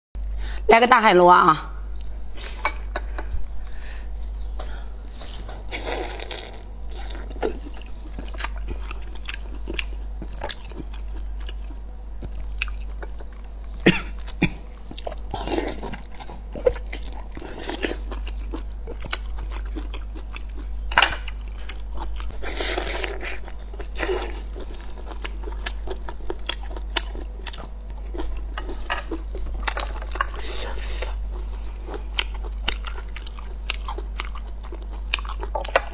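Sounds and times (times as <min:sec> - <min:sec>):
low steady hum: 0:00.2 - 0:35.9
wet chewing and crunching: 0:05.8 - 0:35.9.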